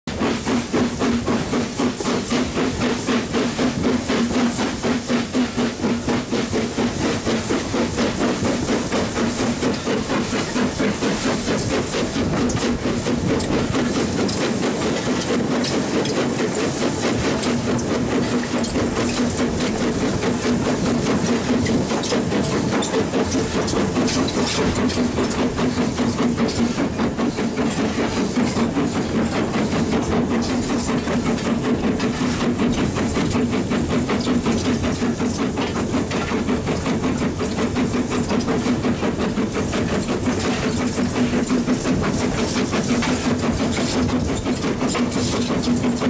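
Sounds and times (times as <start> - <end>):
steam locomotive exhaust beats: 0.1 - 46.0.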